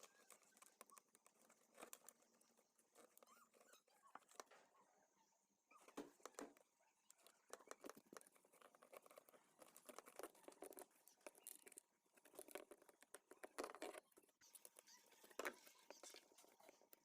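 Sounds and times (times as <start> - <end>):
faint scratching and clicking: 0.0 - 17.0.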